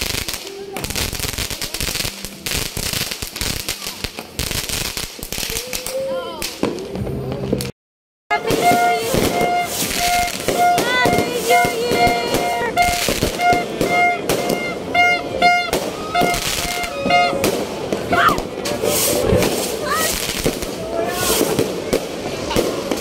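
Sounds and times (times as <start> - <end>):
fountain firework hissing and crackling: 0.0 - 7.7, 8.3 - 23.0.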